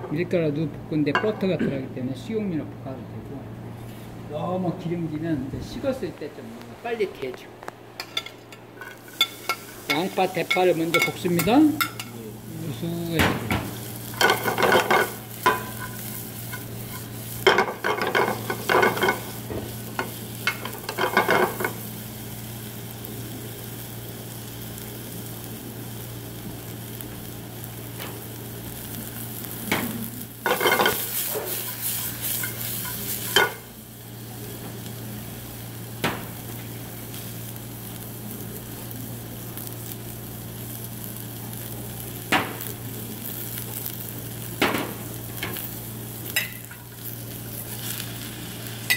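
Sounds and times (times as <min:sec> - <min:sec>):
onion sizzling in oil: 0:07.8 - 0:48.9.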